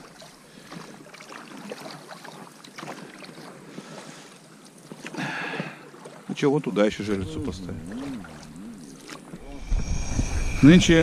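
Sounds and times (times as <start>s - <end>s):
oar splashing in water: 0.0s - 9.9s.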